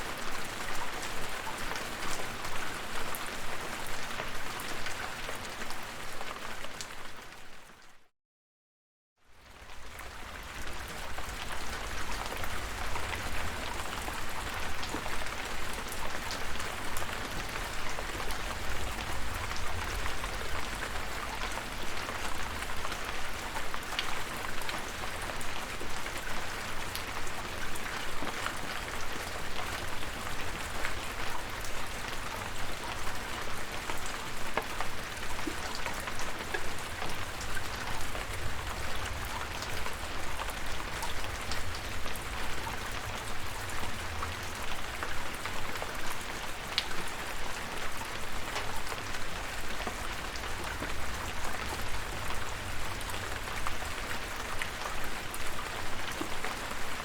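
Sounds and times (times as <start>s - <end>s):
steady rain falling: 0.0s - 8.1s, 9.2s - 57.0s.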